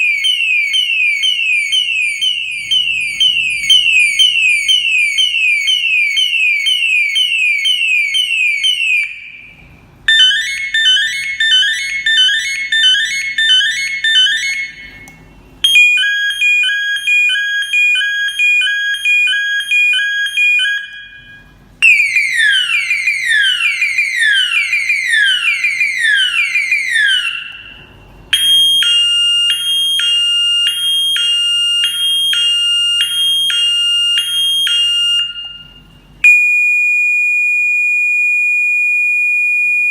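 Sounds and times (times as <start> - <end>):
electronic horn siren melodies: 0.0 - 36.8.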